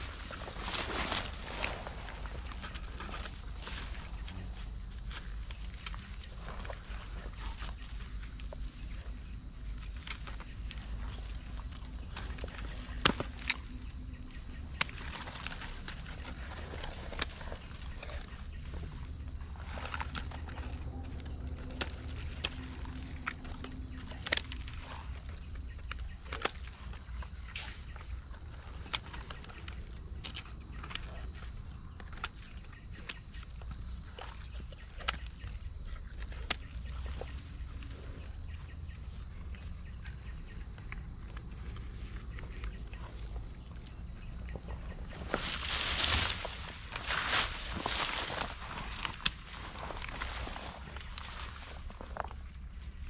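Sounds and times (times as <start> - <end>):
high-pitched insect drone: 0.0 - 53.0.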